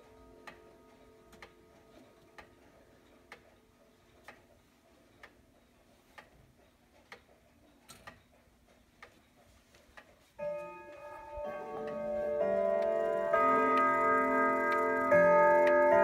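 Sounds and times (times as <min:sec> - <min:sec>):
clock ticking: 0:00.0 - 0:16.0.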